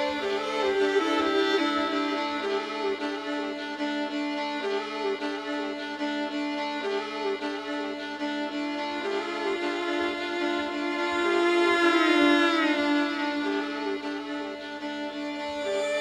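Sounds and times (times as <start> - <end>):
folk fiddle music: 0.0 - 16.0.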